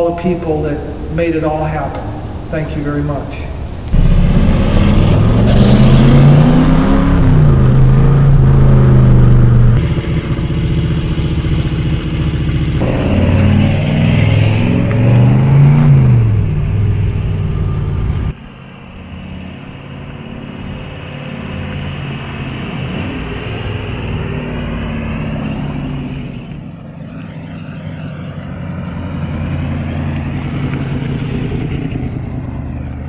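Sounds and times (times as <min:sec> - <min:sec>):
car engine accelerating: 0:03.9 - 0:33.0.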